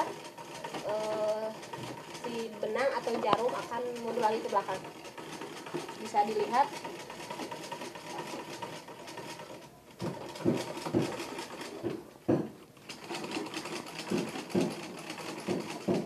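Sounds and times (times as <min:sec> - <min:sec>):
sewing machine clunks: 0:00.0 - 0:16.0
treadle sewing machine whirring: 0:00.0 - 0:16.0.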